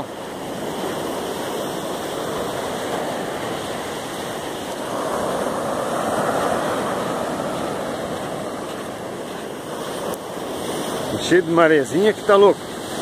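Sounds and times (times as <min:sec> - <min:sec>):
small waves breaking on sand: 0:00.0 - 0:13.0.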